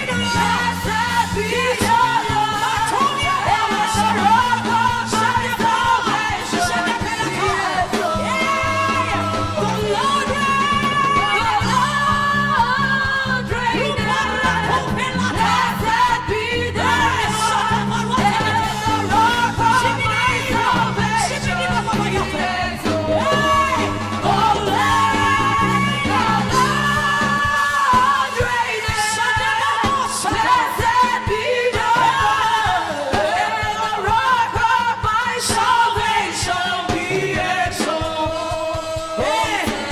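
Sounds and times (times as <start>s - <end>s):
band accompaniment with bass: 0.0s - 39.9s
woman singing gospel: 0.0s - 39.9s.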